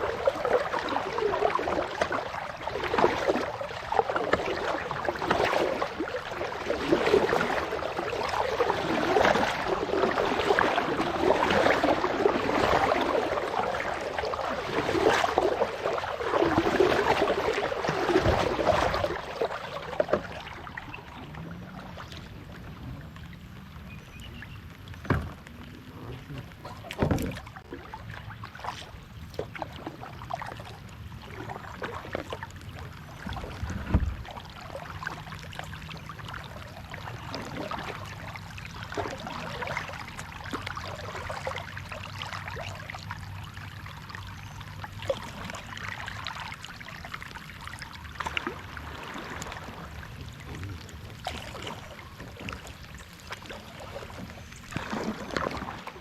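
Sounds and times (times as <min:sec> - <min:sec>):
water dripping and trickling: 0:00.0 - 0:55.9
paddle splashing water: 0:00.0 - 0:56.0.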